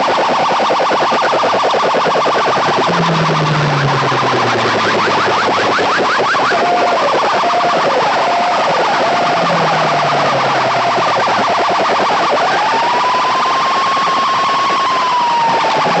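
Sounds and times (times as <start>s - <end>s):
electronic siren-like effect: 0.0s - 16.0s
fast pulsing beat: 0.0s - 16.0s.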